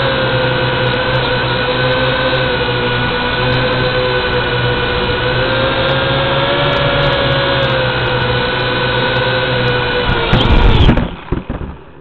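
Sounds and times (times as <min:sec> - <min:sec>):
drone bump and scrape on paving: 0:00.0 - 0:12.0
drone motors whining: 0:00.0 - 0:12.0.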